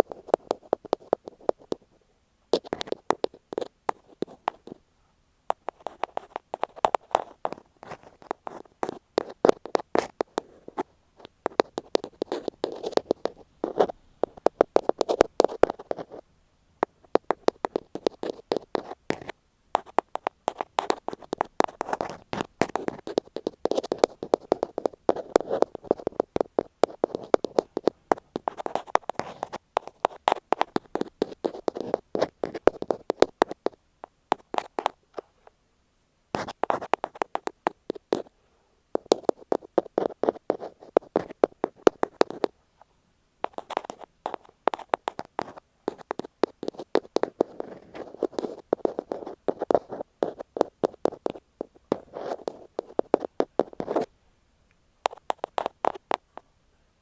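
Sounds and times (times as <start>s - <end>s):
tapping and scratching on microphone: 0.0s - 4.9s, 5.5s - 16.2s, 16.8s - 35.5s, 36.3s - 38.3s, 38.9s - 54.1s, 55.0s - 56.5s.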